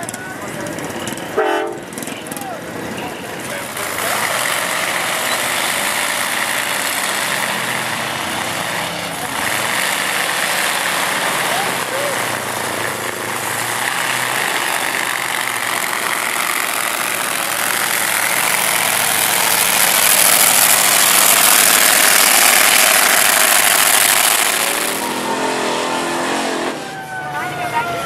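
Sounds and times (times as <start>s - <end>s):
tracked vehicle engine running: 0.0s - 28.0s.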